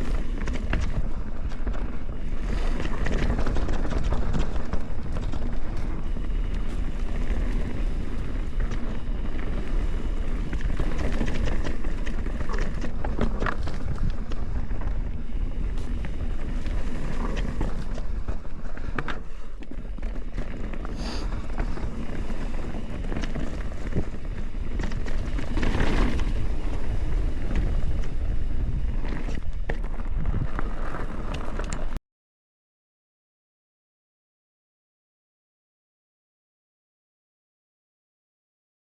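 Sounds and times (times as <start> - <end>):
bike tyre noise: 0.0 - 32.0
wind rumble on microphone: 0.0 - 32.0.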